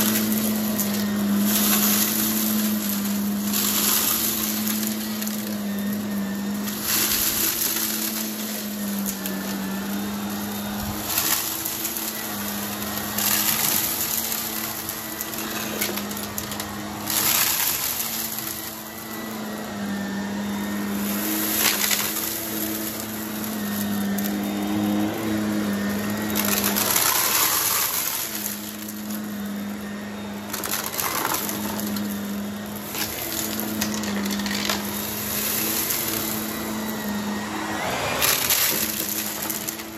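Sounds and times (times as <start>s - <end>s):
debris crunching in vacuum: 0.0s - 39.9s
vacuum cleaner running: 0.0s - 39.9s.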